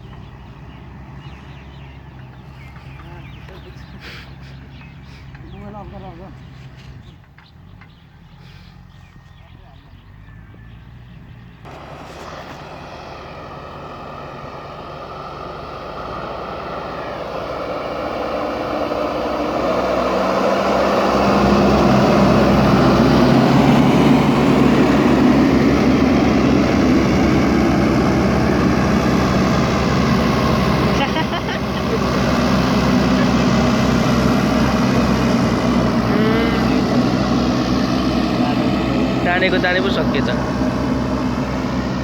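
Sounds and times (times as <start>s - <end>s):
heavy diesel engine approaching: 0.0s - 42.0s.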